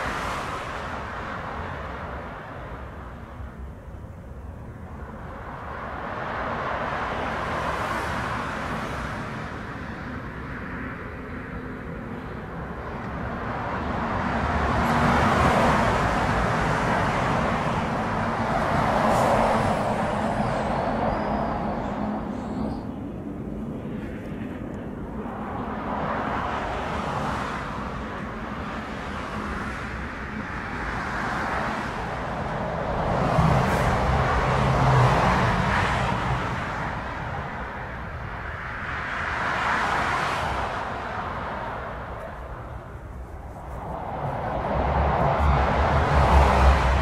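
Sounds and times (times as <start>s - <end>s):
jet engines rushing: 0.0s - 47.0s.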